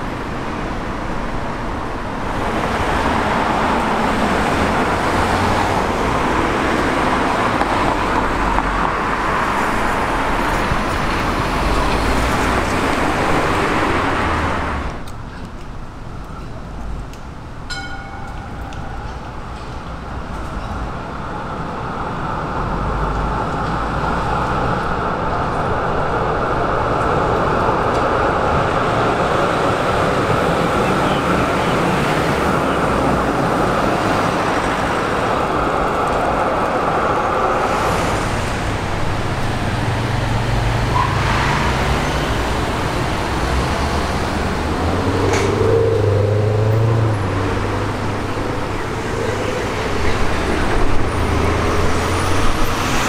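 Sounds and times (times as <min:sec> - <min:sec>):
trams and cars passing: 0:00.0 - 0:53.0.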